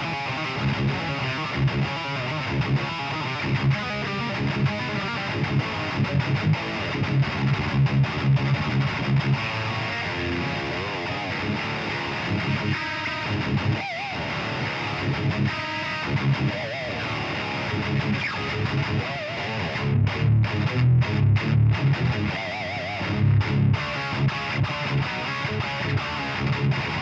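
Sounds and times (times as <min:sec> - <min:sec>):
distorted electric guitar riff: 0:00.0 - 0:27.0.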